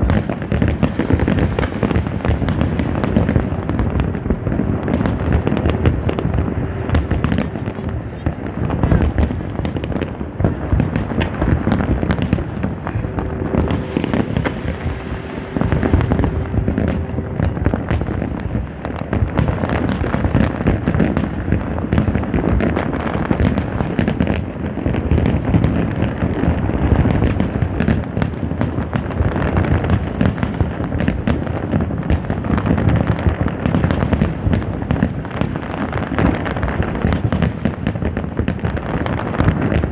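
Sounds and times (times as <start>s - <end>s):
fireworks booming and crackling: 0.0s - 39.9s.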